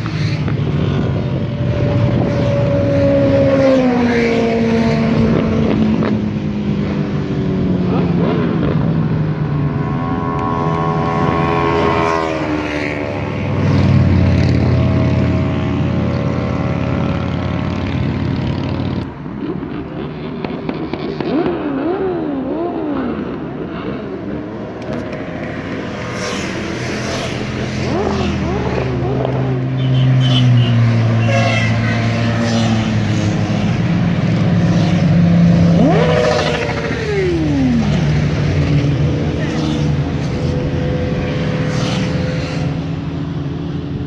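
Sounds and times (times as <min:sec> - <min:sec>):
motorcycles revving past: 0:00.0 - 0:44.0.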